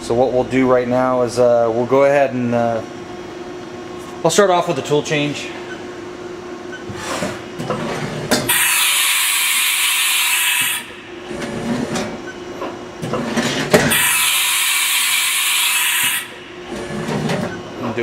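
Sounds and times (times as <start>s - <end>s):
low mechanical noise: 0.0s - 18.0s.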